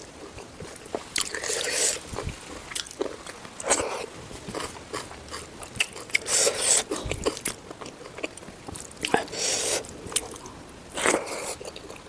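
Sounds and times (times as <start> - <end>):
mouth chewing with wet clicks: 0.0 - 12.0.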